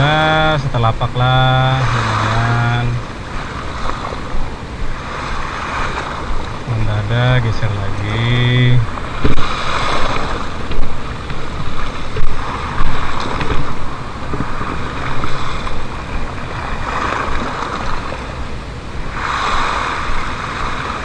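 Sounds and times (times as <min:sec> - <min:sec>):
waves splashing against seawall: 0:00.0 - 0:21.0
wind buffeting microphone: 0:00.0 - 0:21.0.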